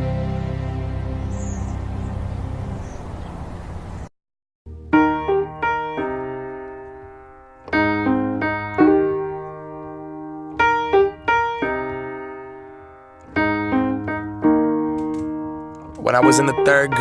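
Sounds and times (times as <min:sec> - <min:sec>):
piano chords: 0:00.0 - 0:04.1, 0:04.7 - 0:17.0.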